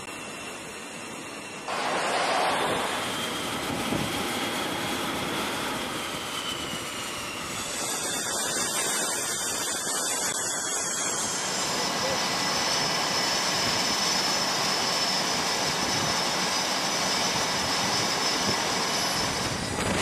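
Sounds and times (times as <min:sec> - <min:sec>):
high jet whine: 0:00.0 - 0:20.0
jet engines rushing: 0:00.0 - 0:20.0.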